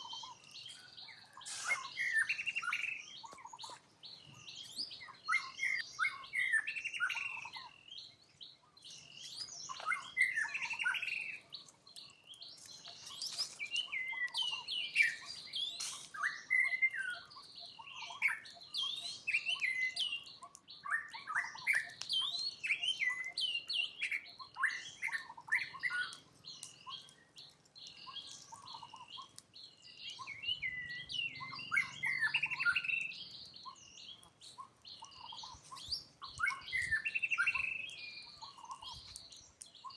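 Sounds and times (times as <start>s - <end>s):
high-pitched chirping calls: 0.0s - 27.2s, 27.8s - 39.9s.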